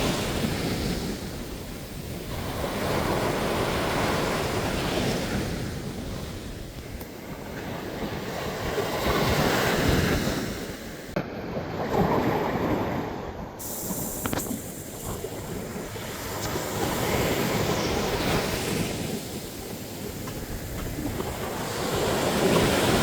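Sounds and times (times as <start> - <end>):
waves breaking on beach: 0.0 - 23.0.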